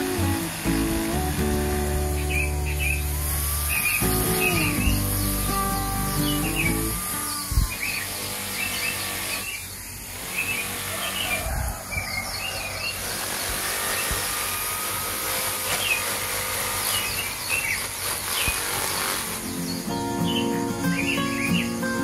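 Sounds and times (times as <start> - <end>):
steady hiss: 0.0 - 11.0, 13.0 - 22.0
small birds chirping: 0.0 - 14.5, 15.2 - 22.0.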